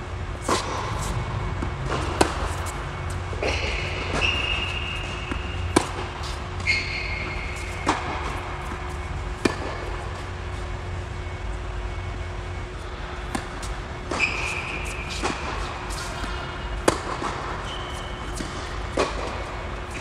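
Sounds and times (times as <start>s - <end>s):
steady low hum: 0.0s - 20.0s
ball bouncing on hard court: 0.4s - 10.0s, 13.3s - 20.0s
racket striking tennis ball: 0.4s - 10.0s, 13.3s - 20.0s.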